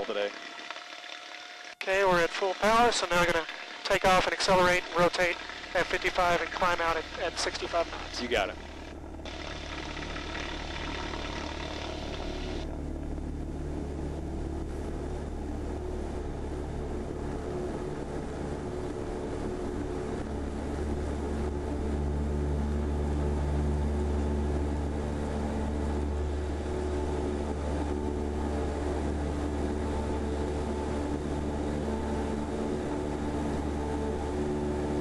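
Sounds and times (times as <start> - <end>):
airplane engine droning: 0.0 - 35.0.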